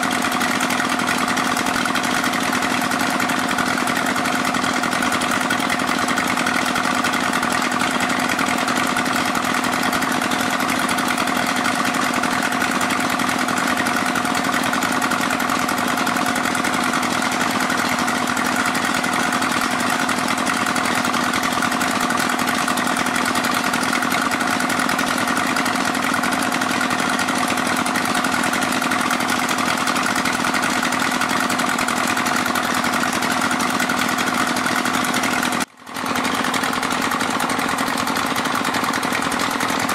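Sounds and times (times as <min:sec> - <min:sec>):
small petrol pump engine running: 0:00.0 - 0:39.9.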